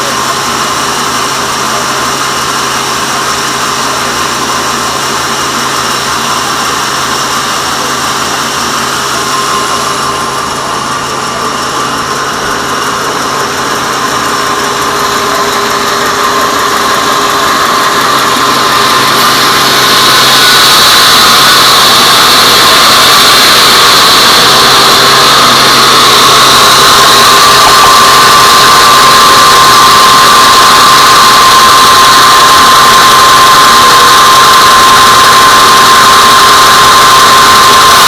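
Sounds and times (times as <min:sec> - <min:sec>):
band saw whirring: 0:00.0 - 0:38.0.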